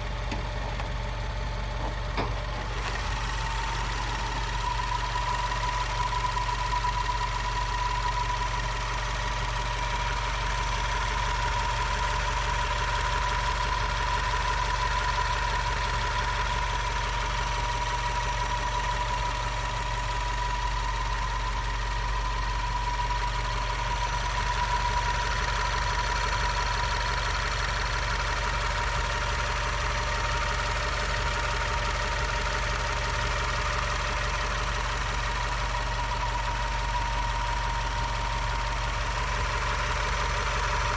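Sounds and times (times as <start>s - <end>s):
car engine idling with whine: 0.0s - 40.9s.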